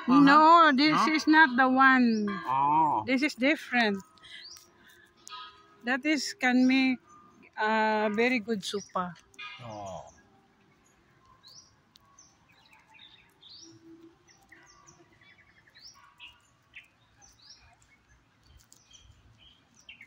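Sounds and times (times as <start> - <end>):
bird trill: 0.0 - 20.0
faint birds chirping: 0.0 - 20.0.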